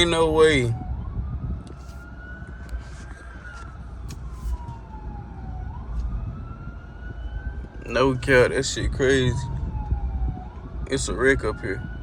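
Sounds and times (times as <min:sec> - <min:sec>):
emergency siren wailing: 0:00.0 - 0:12.0
low road rumble: 0:00.0 - 0:12.0.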